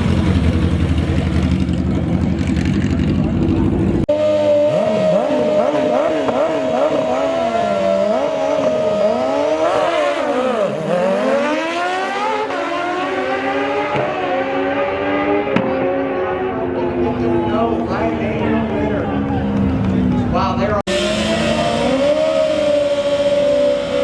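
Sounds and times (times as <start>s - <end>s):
motorcycle engine accelerating: 0.0s - 24.0s
racing motorcycle engines revving: 0.0s - 24.0s.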